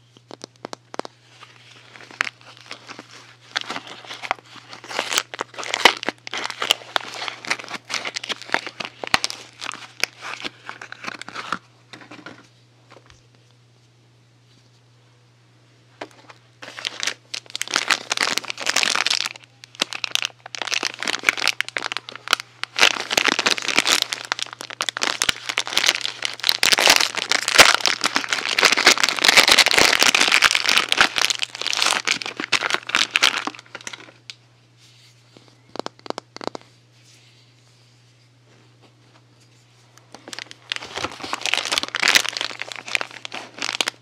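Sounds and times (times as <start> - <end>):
packaging crinkling: 0.0 - 12.4, 16.0 - 34.4, 35.1 - 36.7, 40.0 - 44.0.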